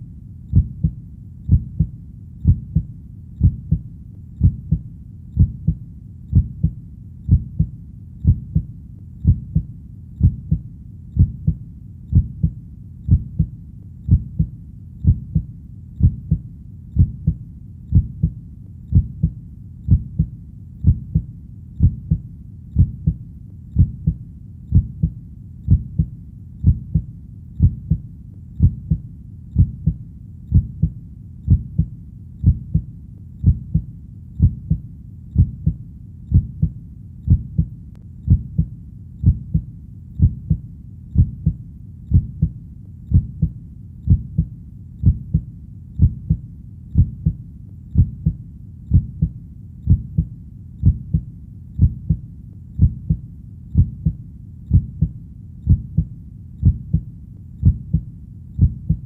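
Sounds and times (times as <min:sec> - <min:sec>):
heartbeat thumps: 0:00.0 - 0:59.0.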